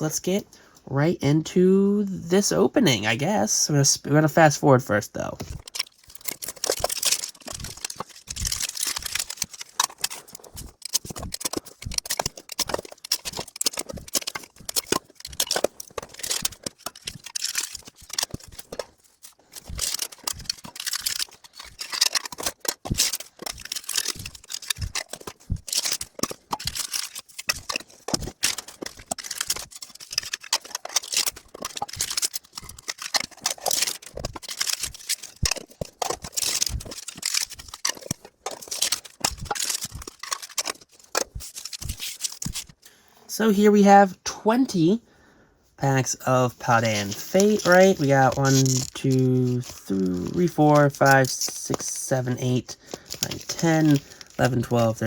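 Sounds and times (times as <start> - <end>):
foil packs crinkling: 5.3 - 43.0, 46.3 - 55.0.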